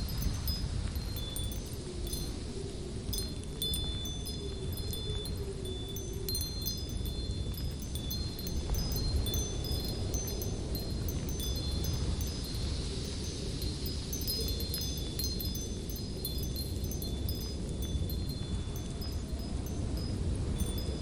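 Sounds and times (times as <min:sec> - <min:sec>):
high ringing tinkles: 0:00.0 - 0:21.0
light wind rushing: 0:00.0 - 0:21.0.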